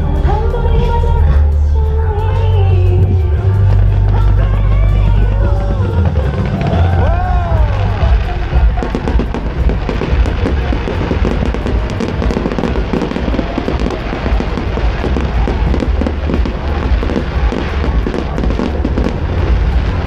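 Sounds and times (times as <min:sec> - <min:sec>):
fireworks crackling: 0:02.2 - 0:20.0
fireworks low booms: 0:03.0 - 0:20.0.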